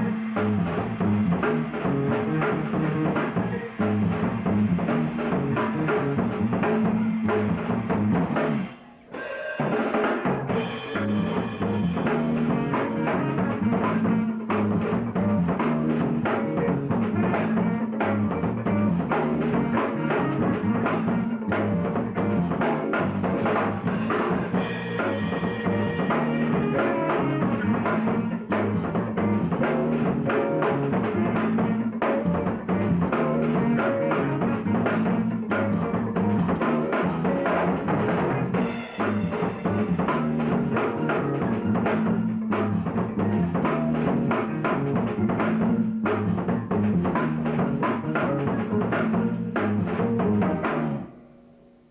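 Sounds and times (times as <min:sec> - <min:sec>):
repeating bass line: 0:00.0 - 0:08.7, 0:10.5 - 0:51.0
band playing instrumental: 0:00.0 - 0:51.3
drum kit: 0:00.0 - 0:51.3.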